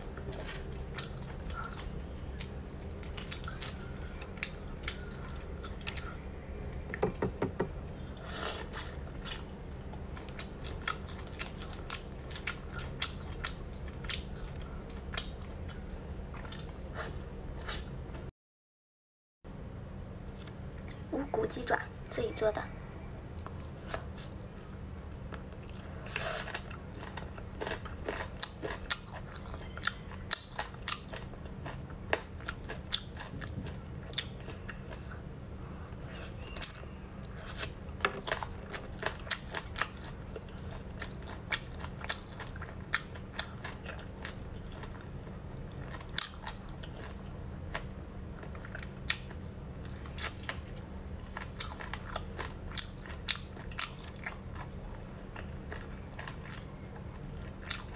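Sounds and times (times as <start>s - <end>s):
person chewing and crunching: 0.1s - 6.3s, 8.1s - 17.9s, 23.2s - 57.9s.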